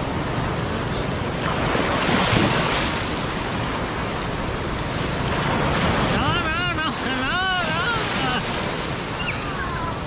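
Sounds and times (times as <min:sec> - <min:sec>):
sea waves breaking: 0:00.0 - 0:10.0
wind on microphone: 0:00.0 - 0:10.0.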